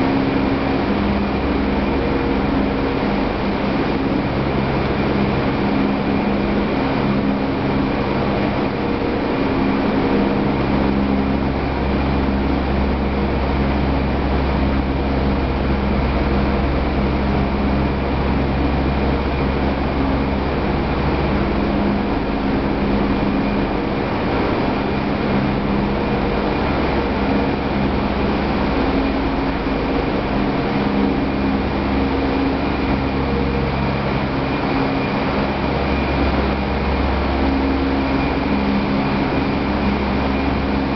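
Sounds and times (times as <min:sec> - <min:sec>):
factory machinery humming: 0:00.0 - 0:40.9.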